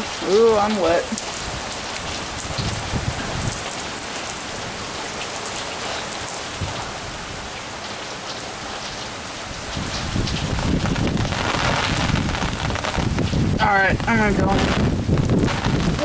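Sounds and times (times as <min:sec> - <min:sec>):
heavy rain falling: 0:00.0 - 0:16.0
raindrops ticking on microphone: 0:00.0 - 0:16.0.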